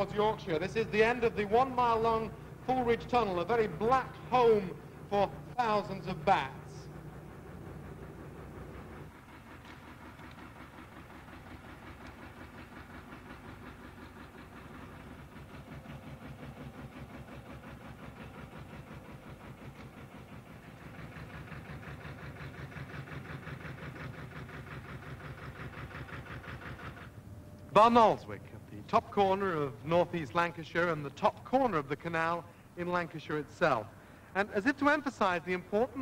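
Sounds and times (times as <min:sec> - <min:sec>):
boat diesel engine chugging: 0:00.0 - 0:36.0.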